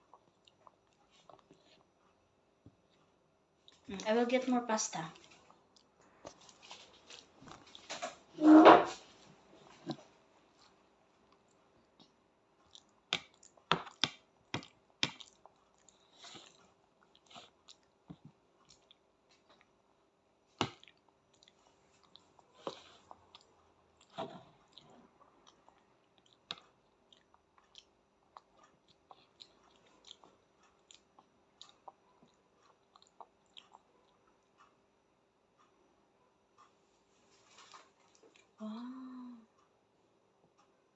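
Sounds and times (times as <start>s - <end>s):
faint chewing: 0.0s - 4.2s, 5.1s - 8.2s, 9.0s - 35.8s, 36.5s - 39.8s.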